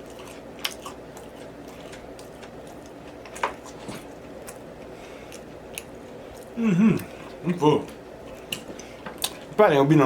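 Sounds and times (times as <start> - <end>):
quiet mouth eating sounds: 0.0 - 9.6.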